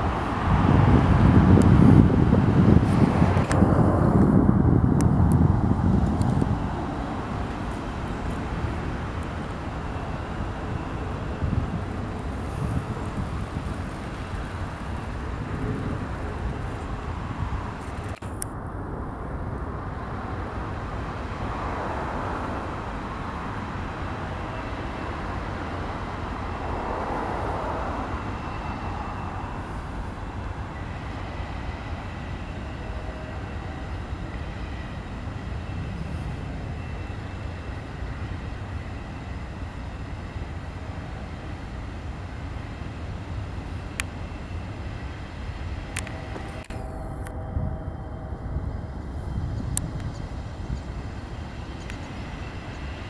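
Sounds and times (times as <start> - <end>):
distant freight train rumbling: 0.0 - 53.0.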